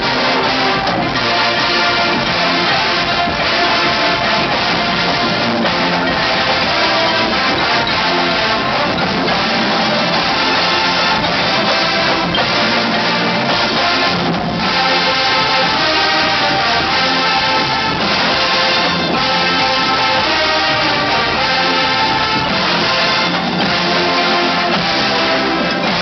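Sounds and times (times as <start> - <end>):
marching band playing rock: 0.0 - 26.0.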